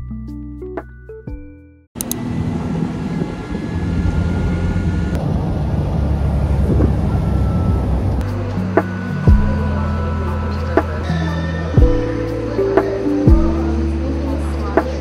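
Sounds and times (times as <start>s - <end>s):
auto-rickshaw engine hum: 2.0s - 15.0s
traffic rushing: 2.0s - 15.0s
wind: 2.0s - 15.0s.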